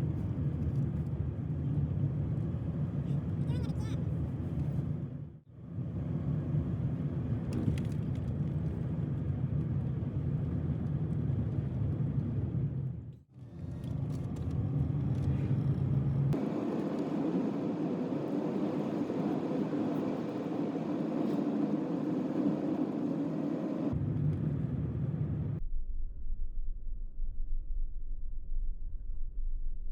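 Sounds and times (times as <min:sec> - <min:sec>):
vehicle rumble on the move: 0:00.0 - 0:25.7.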